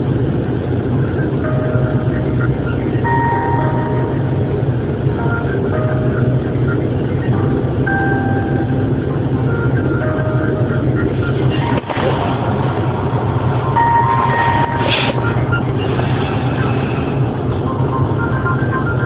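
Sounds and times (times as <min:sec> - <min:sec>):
telephone line noise with hum: 0:00.2 - 0:19.0.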